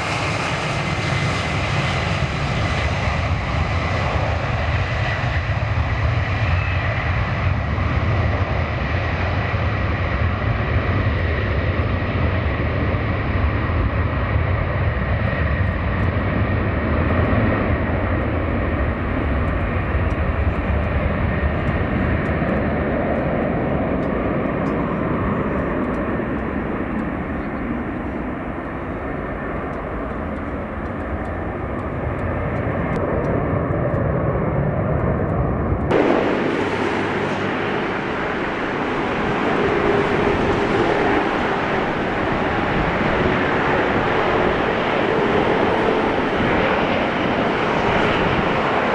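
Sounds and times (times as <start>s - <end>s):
airplane engines running: 0.0s - 48.9s.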